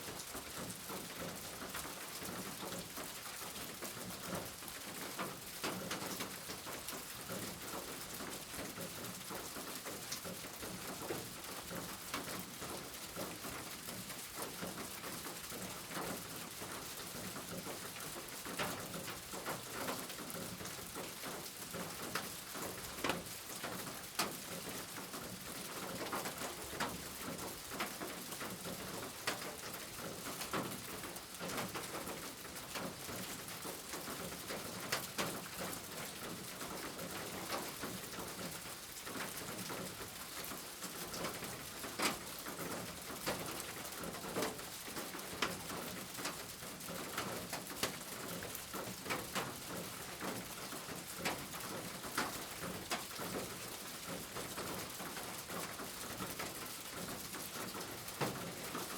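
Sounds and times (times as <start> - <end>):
steady rain: 0.0 - 58.9
raindrops ticking on hard surface: 0.1 - 58.9.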